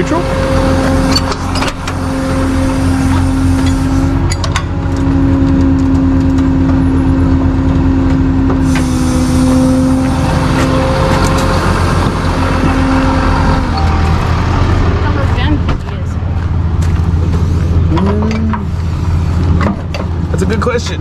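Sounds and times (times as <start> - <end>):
steady mechanical whine: 0.0 - 21.0
vehicle engine running: 0.0 - 21.0.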